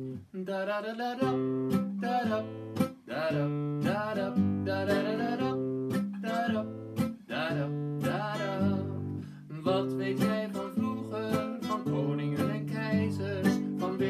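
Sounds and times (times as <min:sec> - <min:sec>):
classical guitar strumming: 0:00.0 - 0:14.0
man singing: 0:00.0 - 0:14.0.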